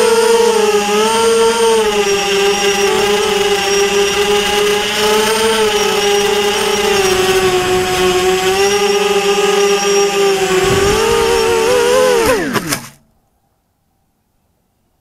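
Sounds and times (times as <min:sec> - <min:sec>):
drone motors whining: 0:00.0 - 0:13.1.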